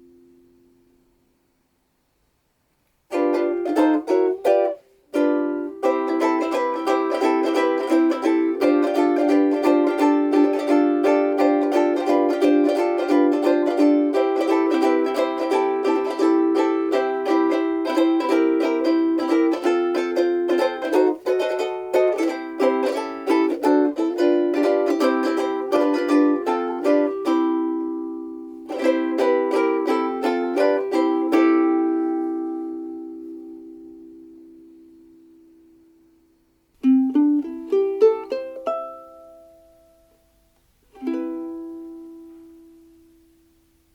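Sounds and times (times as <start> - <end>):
ukulele strummed: 0.0 - 1.4, 3.1 - 43.9.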